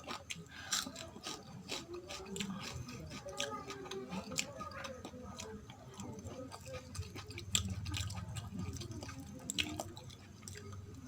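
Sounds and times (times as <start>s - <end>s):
wet chewing mouth clicks: 0.0s - 11.0s.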